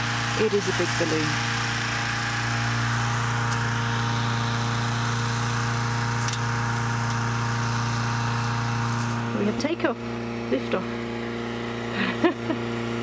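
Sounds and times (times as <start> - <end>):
engine hum: 0.0 - 13.0
fan blowing air: 0.0 - 13.0.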